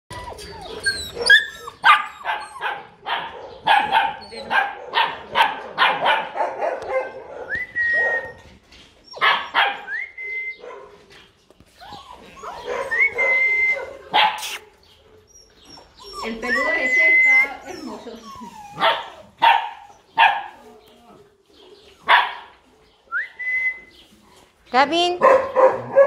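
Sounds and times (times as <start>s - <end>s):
puppies whining: 0.1s - 4.6s, 6.8s - 24.6s
puppies yapping: 0.1s - 24.6s, 25.2s - 26.0s.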